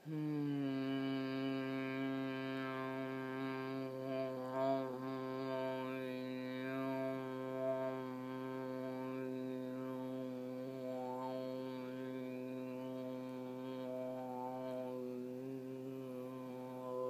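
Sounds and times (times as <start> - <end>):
woman chanting a sung drone: 0.0 - 17.0.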